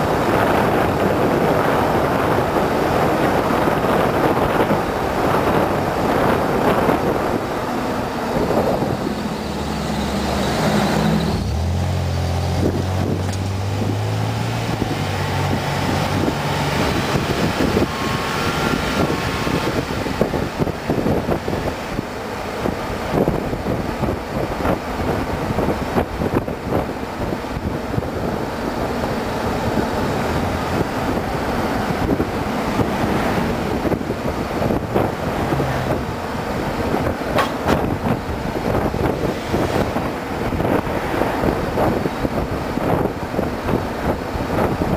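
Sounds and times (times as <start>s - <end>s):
car engine: 0.0s - 44.9s
car tyre and road noise: 0.0s - 44.9s.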